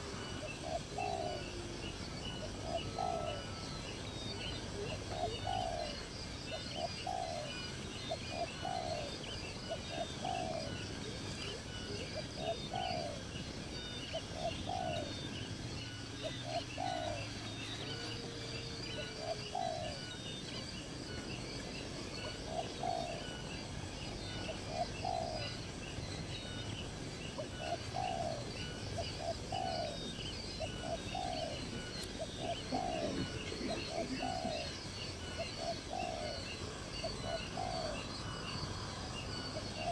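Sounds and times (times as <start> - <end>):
bird low falling calls: 0.0 - 39.9
birds high-pitched chirping: 0.0 - 39.9.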